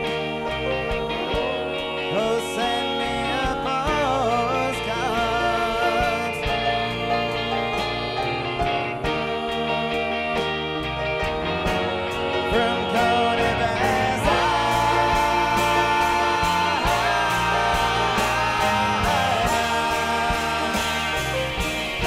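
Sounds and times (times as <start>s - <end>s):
electric guitar lead line bending: 0.0s - 22.0s
live rock band playing: 0.0s - 22.0s.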